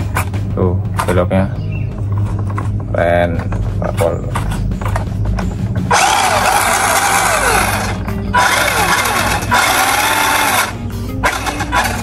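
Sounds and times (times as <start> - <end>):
electric motor and gears whirring: 0.0 - 12.0.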